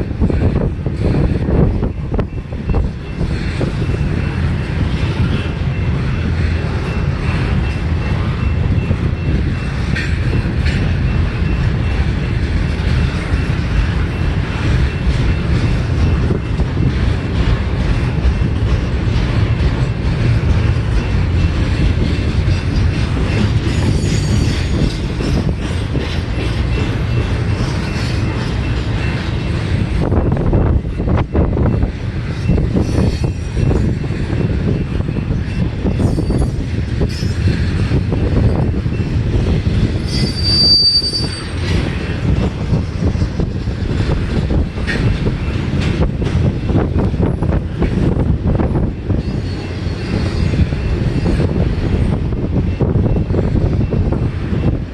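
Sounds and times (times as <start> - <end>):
freight train cars rolling past: 0.0 - 54.9
wind rumble on microphone: 0.0 - 54.9.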